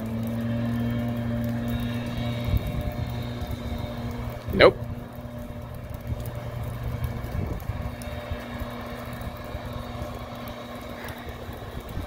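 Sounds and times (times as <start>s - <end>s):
leaf blower droning: 0.0s - 12.0s.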